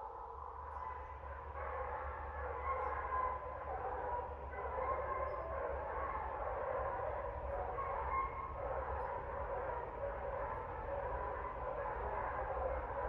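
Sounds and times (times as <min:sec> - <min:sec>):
dogs barking: 0:00.8 - 0:13.0.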